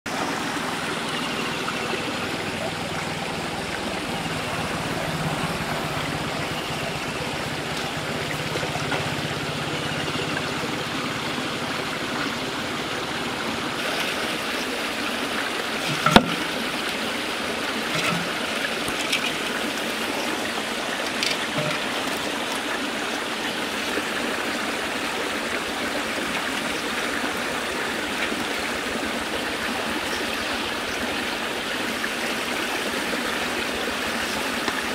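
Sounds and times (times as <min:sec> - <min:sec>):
water pouring from pipes: 0:00.1 - 0:34.9.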